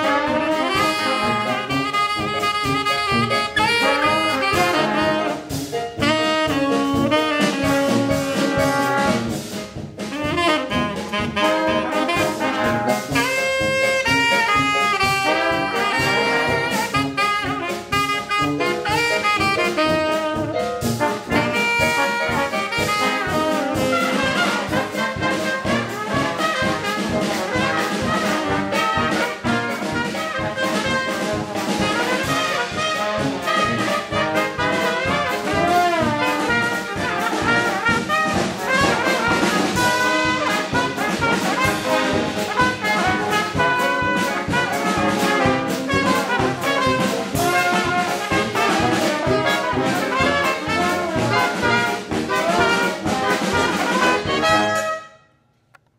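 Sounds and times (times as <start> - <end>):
tenor saxophone: 0.0 - 9.3, 10.1 - 55.4
drum kit: 0.0 - 55.0
tuba: 0.0 - 55.4
trumpet: 0.0 - 55.5.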